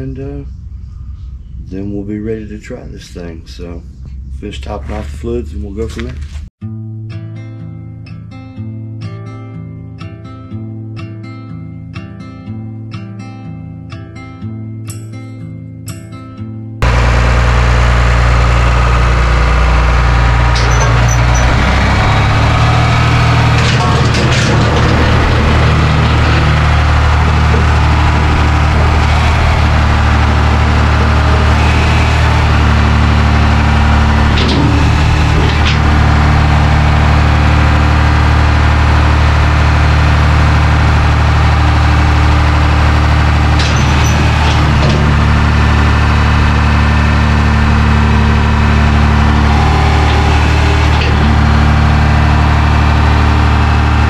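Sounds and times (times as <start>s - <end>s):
diesel tractor engine running: 0.0s - 6.5s, 16.8s - 54.0s.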